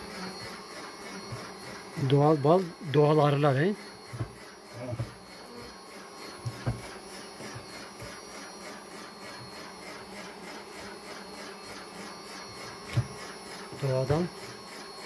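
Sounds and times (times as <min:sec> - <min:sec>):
steady whirring hum: 0:00.0 - 0:15.0.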